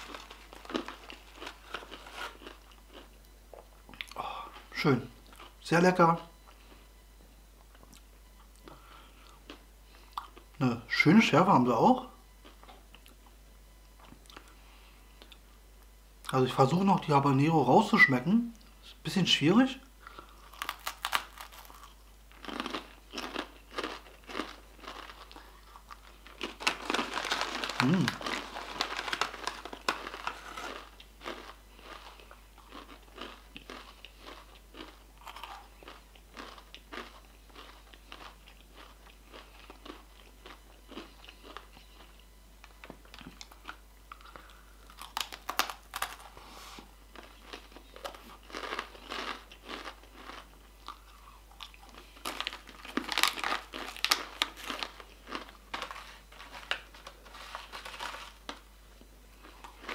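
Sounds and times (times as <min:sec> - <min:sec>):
crunching and chewing chips: 0:00.0 - 0:05.7, 0:07.6 - 0:10.6, 0:13.9 - 0:14.6, 0:20.0 - 0:59.9.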